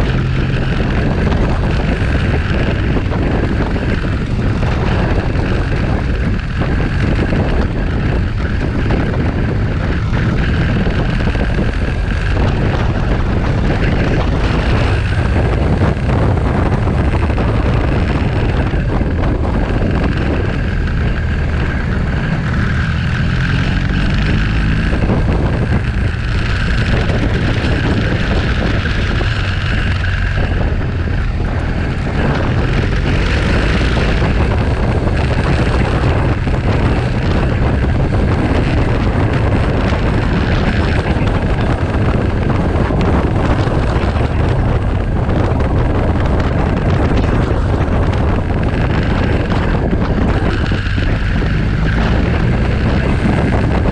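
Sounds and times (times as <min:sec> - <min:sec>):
motorcycle engine running: 0:00.0 - 0:53.9
wind noise on microphone: 0:00.0 - 0:53.9.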